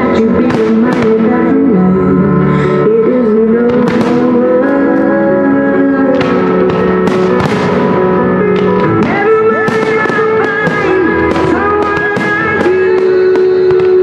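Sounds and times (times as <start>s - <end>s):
music with sustained notes: 0.0s - 14.0s.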